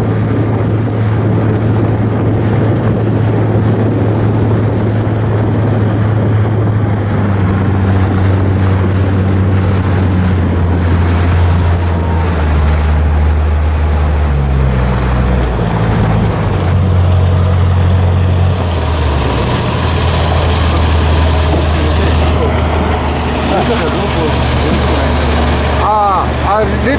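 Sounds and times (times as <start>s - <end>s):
ship diesel machinery drone: 0.0s - 26.9s.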